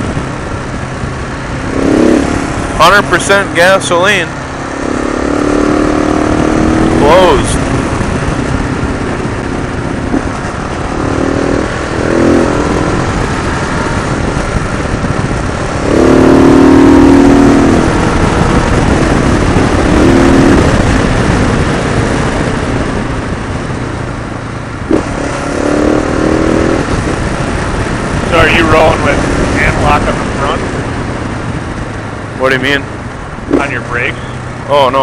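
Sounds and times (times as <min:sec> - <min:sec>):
motorcycle engine revving: 0:00.0 - 0:35.0
rush of riding noise: 0:00.0 - 0:35.0.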